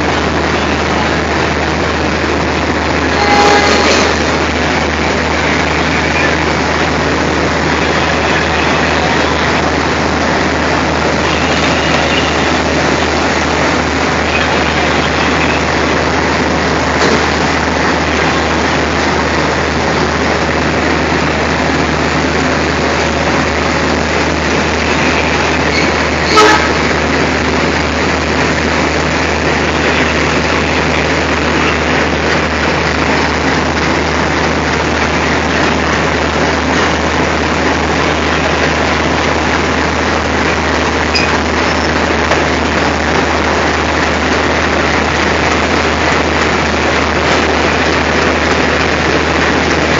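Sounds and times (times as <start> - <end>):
diesel locomotive engine running: 0.0 - 49.9.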